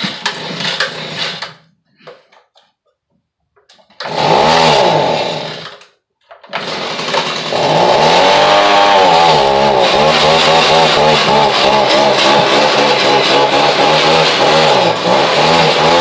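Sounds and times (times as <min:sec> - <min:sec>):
leaf blower engine starting: 0:00.0 - 0:01.7, 0:03.9 - 0:16.0.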